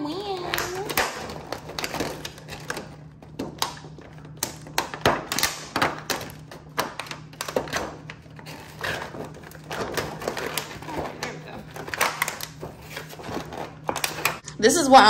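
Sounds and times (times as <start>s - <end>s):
plastic lid and foil pan crackling: 0.1s - 14.4s.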